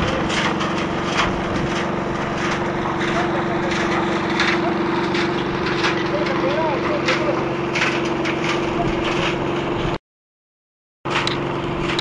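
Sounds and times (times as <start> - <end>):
scrapes and knocks: 0.0 - 9.7
concrete mixer engine running: 0.0 - 10.0, 11.1 - 12.0.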